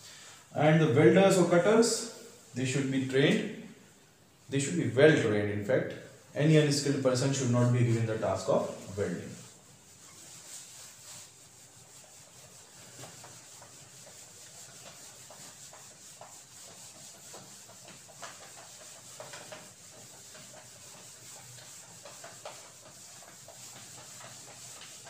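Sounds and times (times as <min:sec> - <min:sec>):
whiteboard being wiped: 0:00.1 - 0:04.0, 0:05.9 - 0:25.0.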